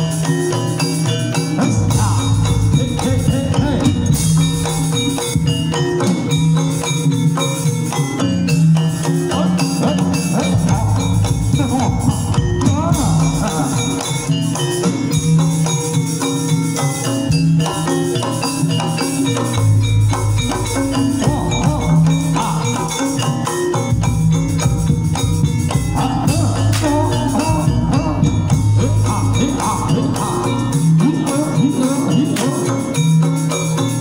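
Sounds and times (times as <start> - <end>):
drums: 0.0 - 34.0
metallophones striking: 0.0 - 34.0.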